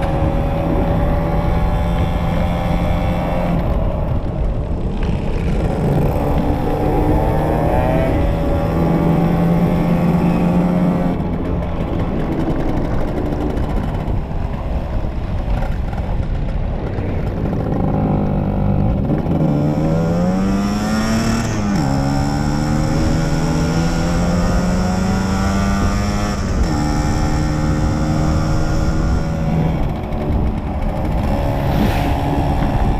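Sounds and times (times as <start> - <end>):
two-stroke motorcycle engine: 0.0 - 32.9.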